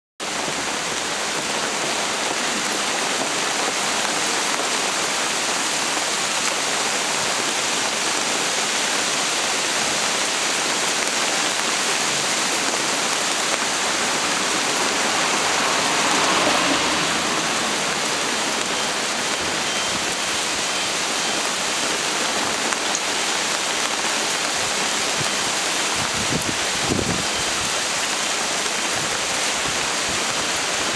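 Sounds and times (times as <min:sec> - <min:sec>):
hailstones pelting wet asphalt: 0:00.2 - 0:30.9.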